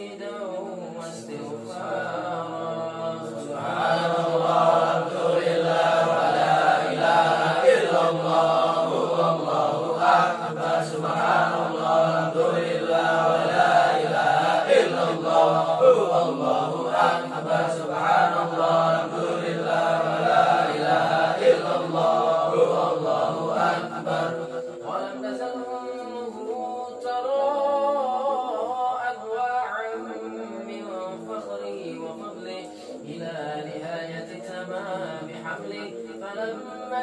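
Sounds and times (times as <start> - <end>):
men chanting in unison: 0.0 - 37.0.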